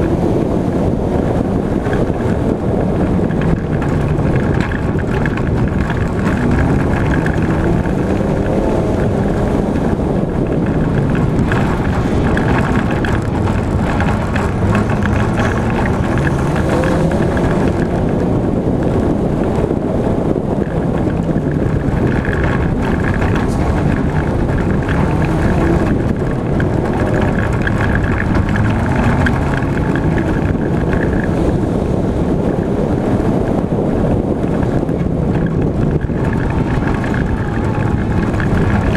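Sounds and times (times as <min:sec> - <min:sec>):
car engine revving: 0:00.0 - 0:38.9
wind and road noise: 0:00.0 - 0:38.9.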